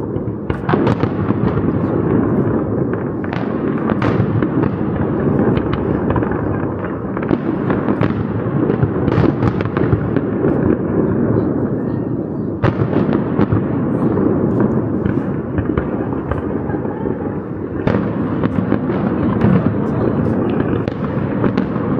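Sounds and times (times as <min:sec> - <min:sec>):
fireworks bangs and crackles: 0:00.0 - 0:21.9
fireworks rumble: 0:00.0 - 0:21.9.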